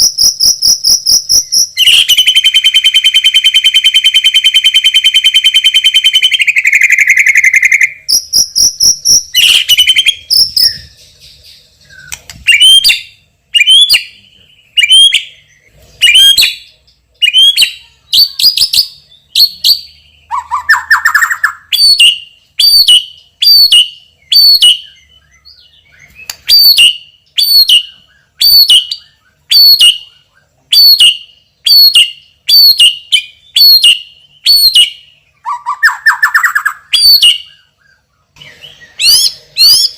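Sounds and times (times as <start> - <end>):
songbird singing trills and whistles: 0.0 - 39.9.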